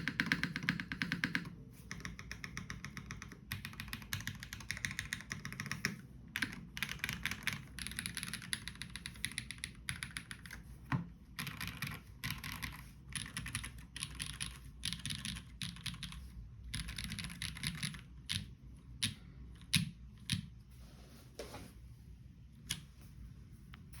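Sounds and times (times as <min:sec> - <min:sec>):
mechanical keyboard typing: 0:00.0 - 0:10.6, 0:11.3 - 0:20.6.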